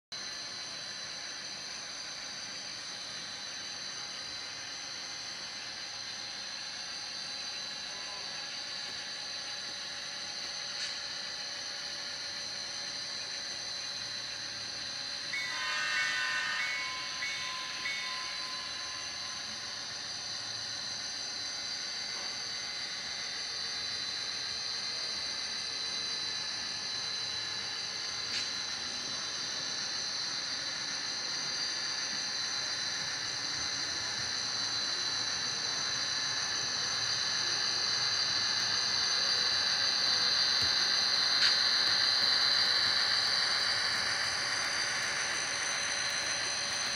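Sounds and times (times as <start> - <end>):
train running with high whine: 0.1 - 46.9.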